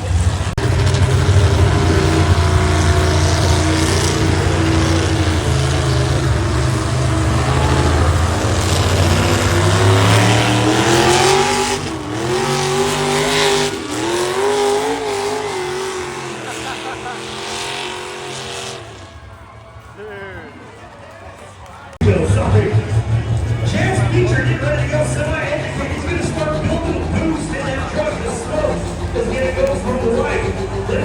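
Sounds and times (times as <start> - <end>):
heavy tractor engine revving: 0.0 - 20.0, 21.9 - 31.0.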